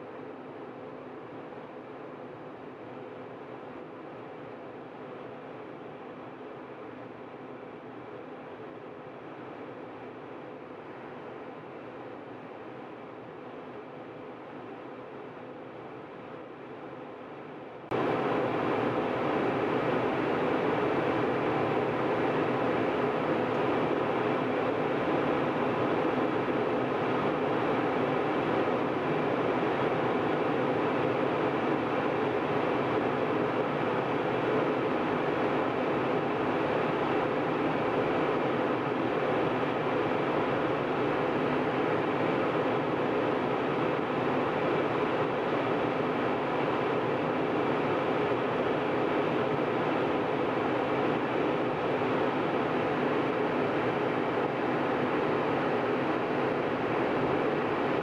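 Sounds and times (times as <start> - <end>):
faint steady hum of tones: 0.0 - 58.0
jet airliner cabin drone: 0.0 - 58.0.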